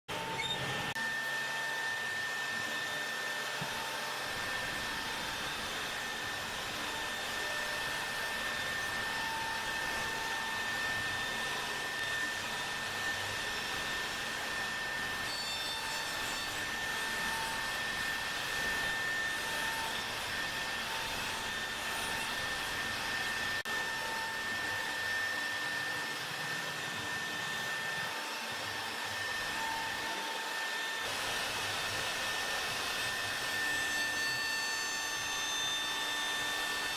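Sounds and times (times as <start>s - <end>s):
router spindle motor whining: 0.1s - 36.9s.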